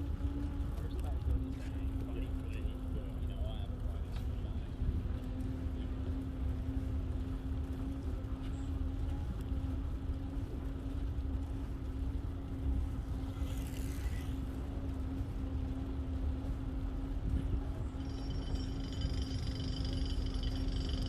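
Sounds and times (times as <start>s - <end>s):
wind rumbling on microphone: 0.0s - 19.2s
steady low hum: 0.0s - 21.0s.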